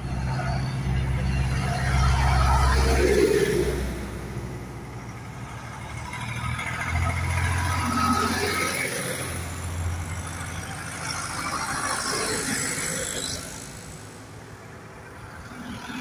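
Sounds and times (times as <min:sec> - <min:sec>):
tractor engines driving past: 0:00.0 - 0:16.0.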